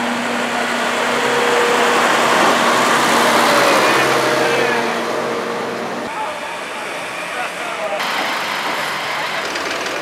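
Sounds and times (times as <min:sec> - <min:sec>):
tractor diesel engine passing: 0:00.0 - 0:10.0.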